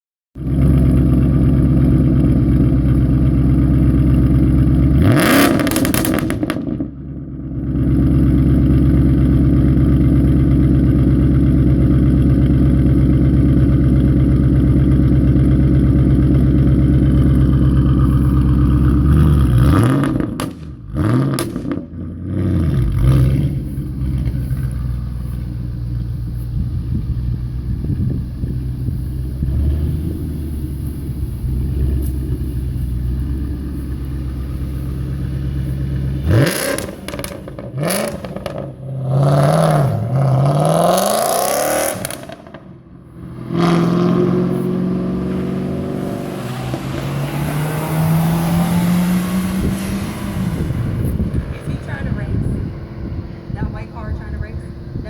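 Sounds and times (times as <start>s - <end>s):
car engine idling and revving: 0.4s - 55.0s.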